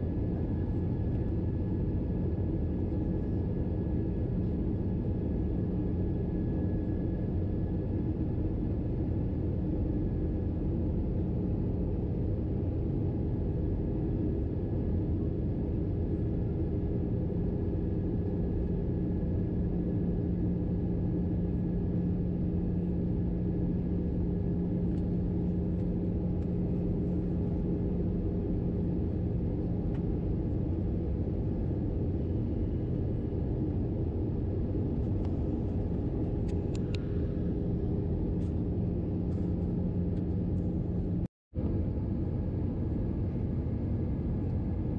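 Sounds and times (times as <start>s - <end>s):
airplane cabin engine and airflow noise: 0.0s - 44.9s
steady low hum: 0.0s - 44.9s.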